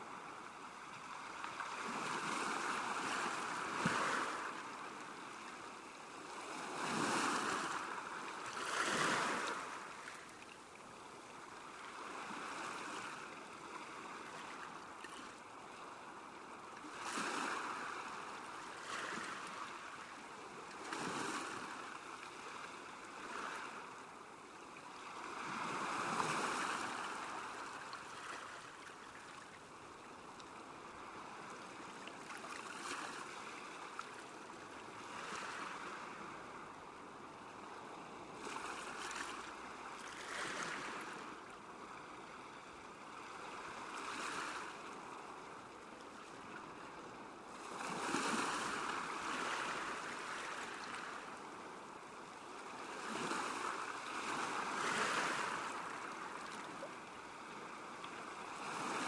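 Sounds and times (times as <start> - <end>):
waves lapping at shore: 0.0 - 59.0.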